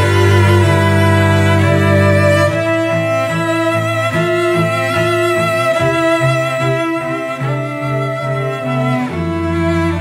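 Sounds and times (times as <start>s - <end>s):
bowed strings music: 0.0s - 10.0s.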